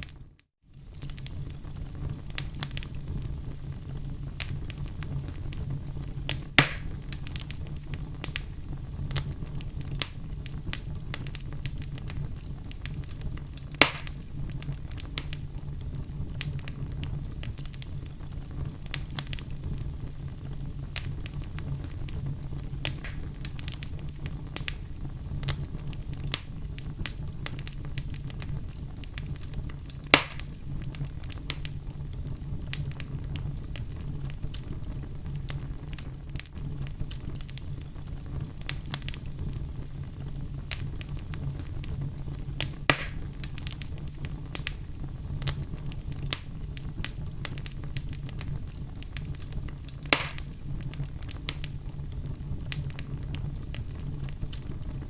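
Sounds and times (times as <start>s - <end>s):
fire crackling: 0.0s - 55.0s
fire rumbling in a fireplace: 0.0s - 55.0s
sharp loud pops from fire: 0.8s - 3.4s, 4.0s - 15.4s, 20.9s - 31.8s, 32.6s - 51.8s.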